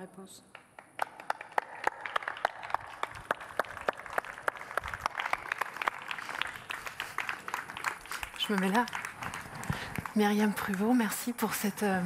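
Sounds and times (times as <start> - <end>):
small audience applauding: 0.5 - 11.3.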